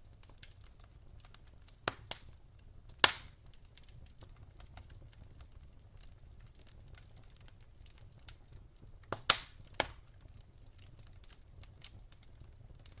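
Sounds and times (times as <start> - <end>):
campfire crackling: 0.0 - 13.0
loud fire pops: 0.0 - 13.0
low fire rumble: 0.0 - 13.0.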